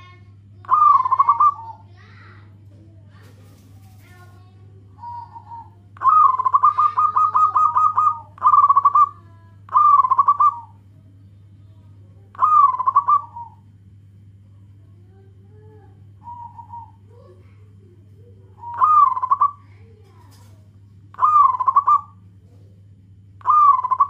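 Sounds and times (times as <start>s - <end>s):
dove cooing: 0.0s - 2.4s, 3.2s - 10.9s, 12.3s - 13.7s, 15.5s - 24.0s
steady low hum: 0.0s - 24.0s.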